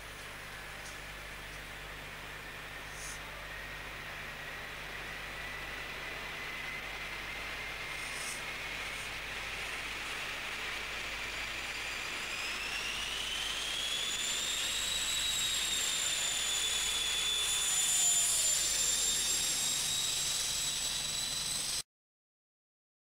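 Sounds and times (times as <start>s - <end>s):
high turbocharger whine: 0.0s - 21.8s.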